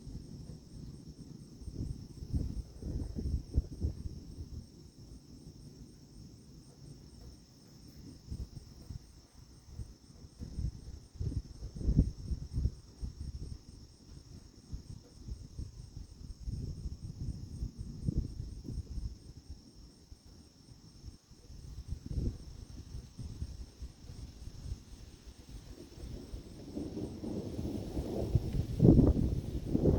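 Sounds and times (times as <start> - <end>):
crickets trilling: 0.0 - 29.9.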